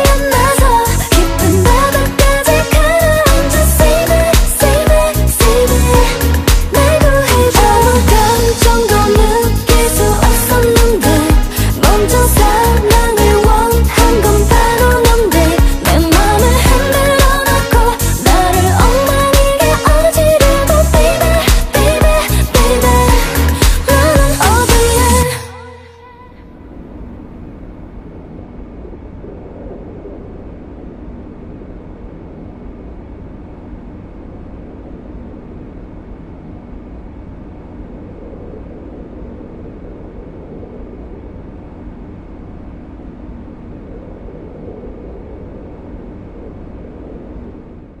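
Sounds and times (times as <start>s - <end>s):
low ambient rumble: 0.0s - 48.0s.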